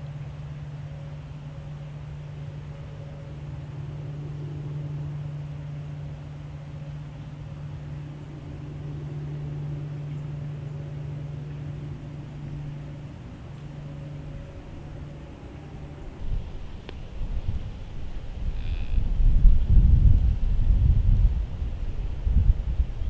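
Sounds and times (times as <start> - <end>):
low mechanical hum: 0.0 - 23.0
low rumble: 3.8 - 23.0.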